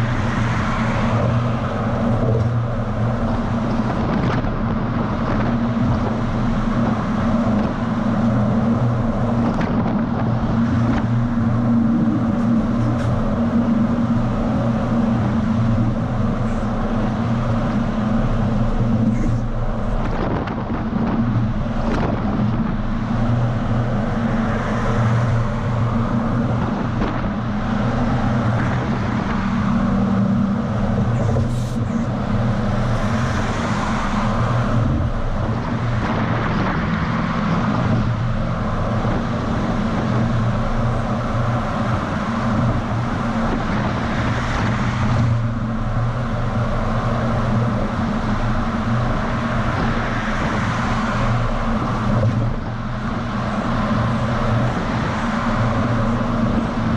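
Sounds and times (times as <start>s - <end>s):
truck diesel engine running: 0.0s - 56.9s
tyre and wind noise: 0.0s - 56.9s.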